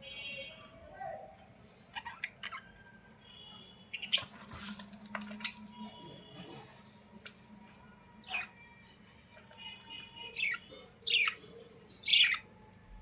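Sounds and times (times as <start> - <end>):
birds chirping and squeaking: 1.3 - 13.0.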